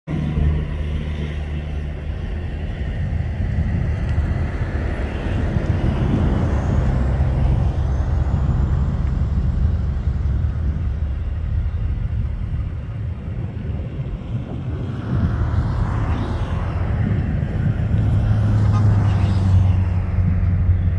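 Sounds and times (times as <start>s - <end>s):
distant jet engines rumbling: 0.1s - 20.9s
faint rising whine: 0.1s - 20.9s.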